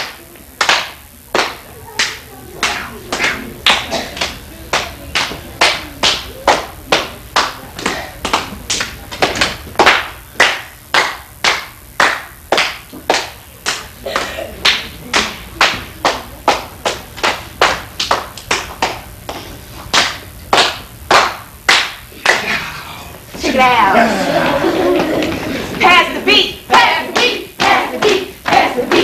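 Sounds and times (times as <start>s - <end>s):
children clapping: 0.0s - 22.6s, 24.6s - 25.8s.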